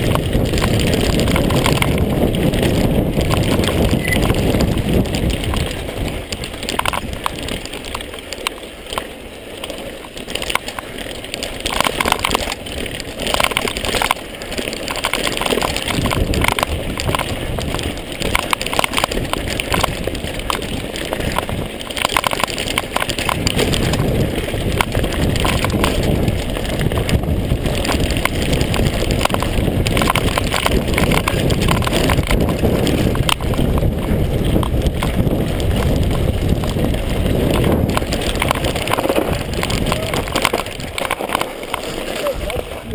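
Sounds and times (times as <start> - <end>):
wind rumble on microphone: 0.0 - 9.0, 9.6 - 42.9
bike rattling and knocking: 0.0 - 42.9
tyres crunching on gravel: 0.0 - 42.9.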